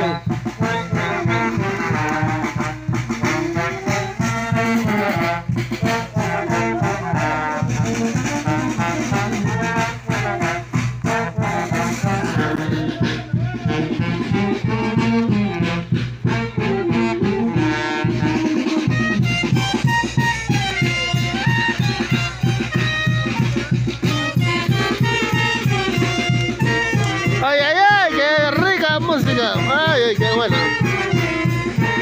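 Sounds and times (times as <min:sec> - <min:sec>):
brass band playing dance tune: 0:00.0 - 0:32.0.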